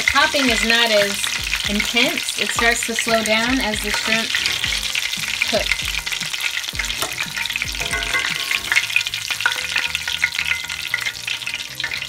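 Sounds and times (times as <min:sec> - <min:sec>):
oil sizzling and popping: 0:00.0 - 0:12.0.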